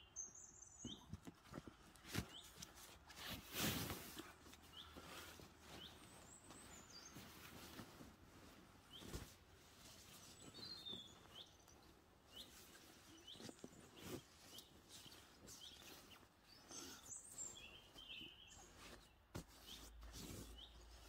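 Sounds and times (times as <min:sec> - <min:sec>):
faint bird chirping: 0:00.0 - 0:21.0
fabric rustling: 0:01.3 - 0:21.0.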